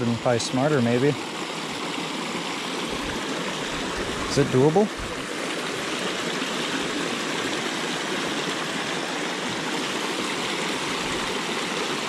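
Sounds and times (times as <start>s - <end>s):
creek rushing over cascade: 0.0s - 12.0s.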